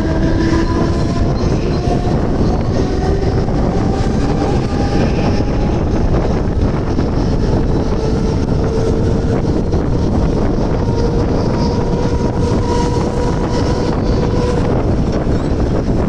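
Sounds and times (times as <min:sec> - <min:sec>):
electric motor whine: 0:00.0 - 0:16.0
train running noise: 0:00.0 - 0:16.0
wind buffeting microphone: 0:00.0 - 0:16.0.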